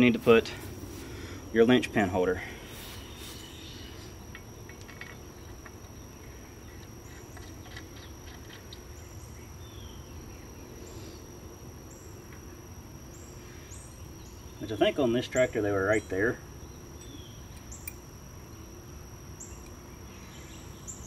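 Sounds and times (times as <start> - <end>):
insect chirps: 0.0 - 21.0
insects buzzing: 0.0 - 21.0.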